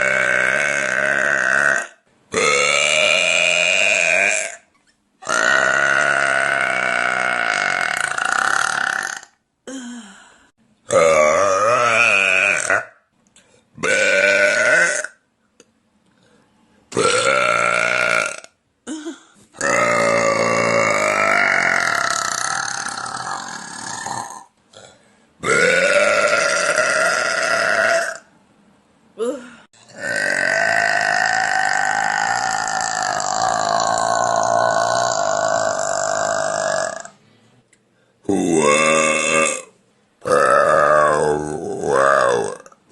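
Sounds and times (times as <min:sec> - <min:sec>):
woman burping loudly: 0:00.0 - 0:10.2, 0:10.9 - 0:13.0, 0:13.8 - 0:15.2, 0:16.9 - 0:28.3, 0:29.2 - 0:37.2, 0:38.3 - 0:42.9.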